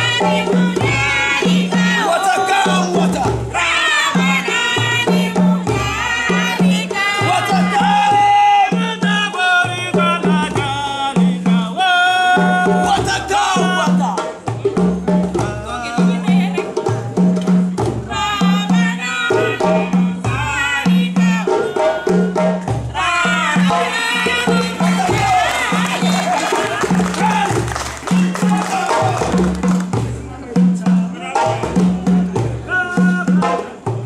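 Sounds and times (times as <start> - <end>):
drum ensemble playing: 0.0 - 34.0
voices singing: 0.0 - 34.0.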